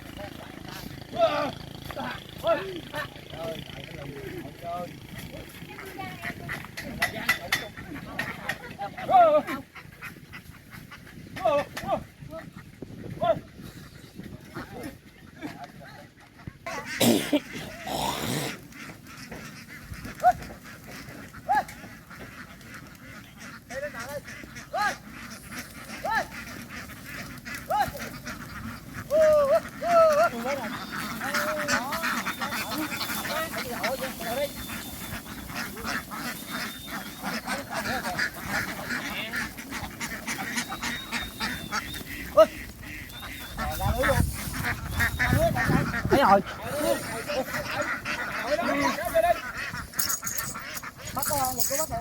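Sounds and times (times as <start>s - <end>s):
ducks calling: 0.0s - 52.0s.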